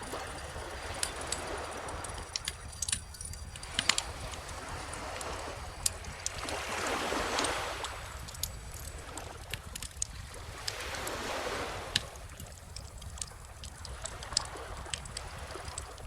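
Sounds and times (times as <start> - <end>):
bonfire crackling and popping: 0.0 - 16.0
ocean waves: 0.0 - 16.0.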